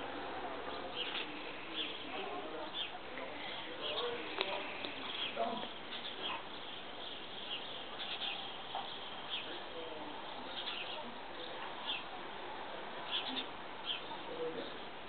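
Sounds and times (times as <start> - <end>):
faint outdoor hiss: 0.0 - 15.0
small birds chirping: 0.4 - 12.3, 13.0 - 15.0.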